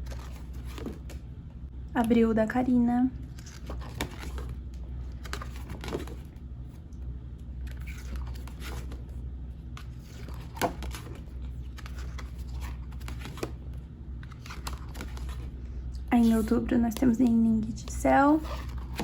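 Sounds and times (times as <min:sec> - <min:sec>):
paper calendar pages turning: 0:00.0 - 0:01.2, 0:03.2 - 0:07.0, 0:07.6 - 0:15.6, 0:16.2 - 0:19.0
steady low hum: 0:00.0 - 0:19.0.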